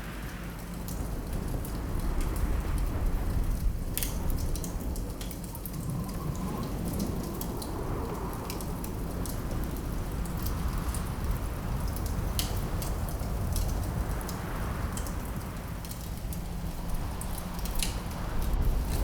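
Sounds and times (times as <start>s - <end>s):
low rumble of wind: 0.0s - 19.0s
wood fire crackling and popping: 0.1s - 19.0s.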